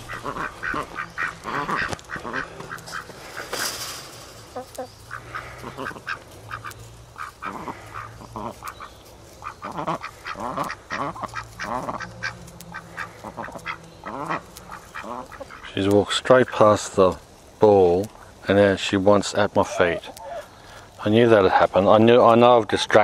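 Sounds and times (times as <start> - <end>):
handling rustle: 0.0 - 18.5
hens clucking: 0.0 - 23.0.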